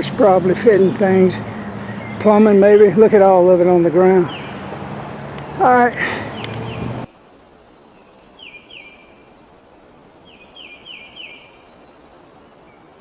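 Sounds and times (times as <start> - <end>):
faint outdoor background: 0.0 - 13.0
songbird chirping: 0.0 - 13.0.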